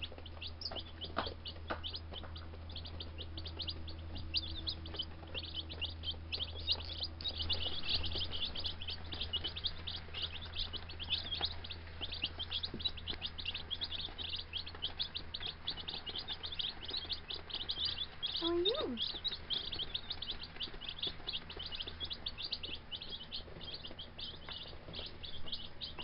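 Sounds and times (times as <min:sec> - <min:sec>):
baby chicks peeping: 0:00.0 - 0:26.0
faint low hum: 0:00.0 - 0:26.0.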